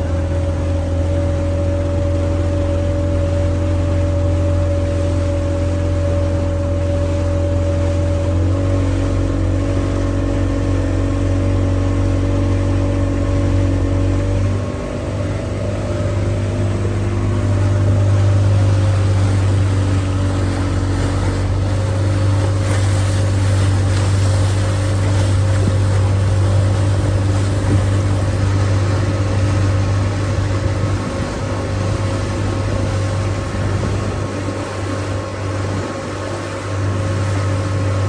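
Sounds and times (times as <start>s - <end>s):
motorboat engine running: 0.0s - 38.0s.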